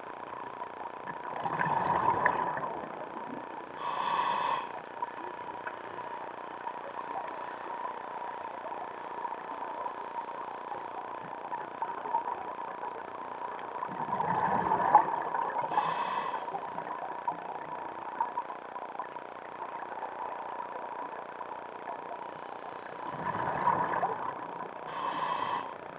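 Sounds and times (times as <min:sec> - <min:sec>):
steady underwater hiss: 0:00.0 - 0:25.9.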